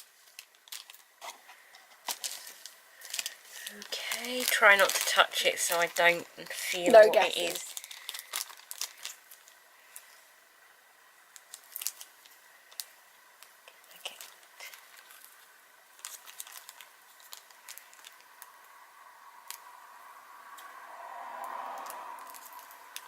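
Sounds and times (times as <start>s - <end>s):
plastic packaging crinkling: 0.0s - 10.2s, 11.3s - 18.7s, 21.8s - 23.0s.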